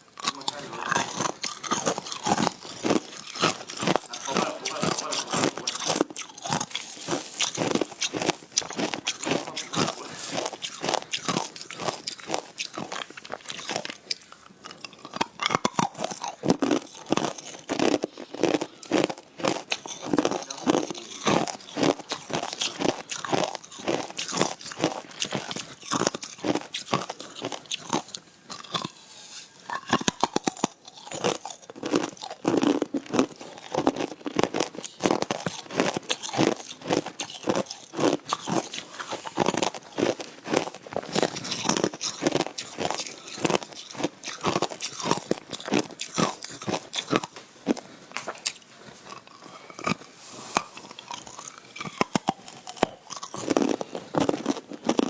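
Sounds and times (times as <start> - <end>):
ice being chewed with crunches: 0.0 - 55.0.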